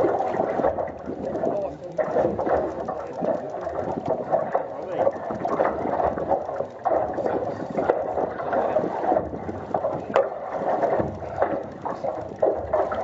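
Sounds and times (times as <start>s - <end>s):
water sloshing against boat hull: 0.0s - 13.0s.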